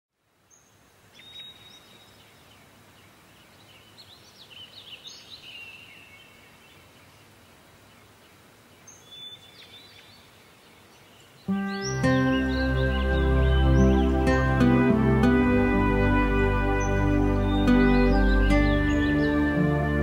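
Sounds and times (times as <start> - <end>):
faint background hiss: 0.1 - 20.0
small birds chirping: 0.4 - 15.4, 16.0 - 20.0.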